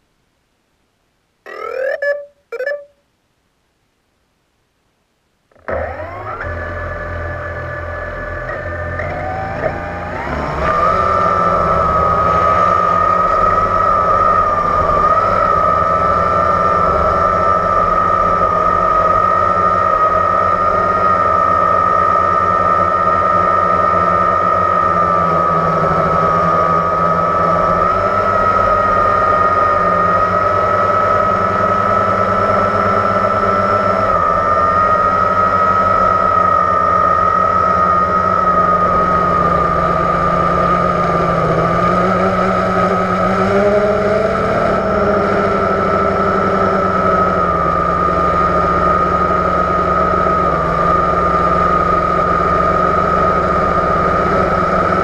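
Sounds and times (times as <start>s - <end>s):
drone propellers whining: 1.5s - 2.9s, 5.5s - 55.0s.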